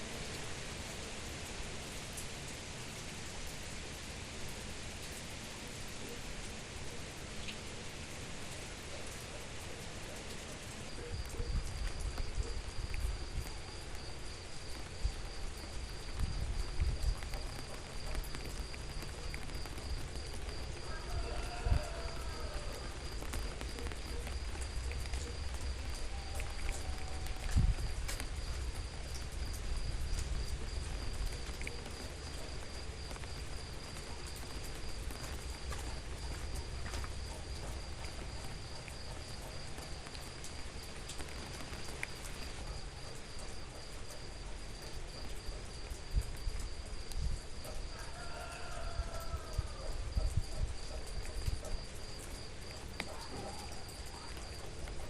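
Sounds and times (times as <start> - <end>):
hiss and low rumble: 0.0 - 55.0
high insect trill: 9.9 - 55.0.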